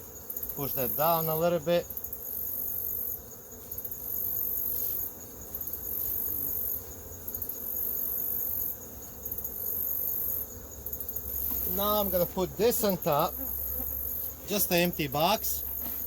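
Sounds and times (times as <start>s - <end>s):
honeybees humming: 0.0s - 16.0s
insects buzzing: 0.0s - 16.0s
insect ticking: 0.2s - 16.0s.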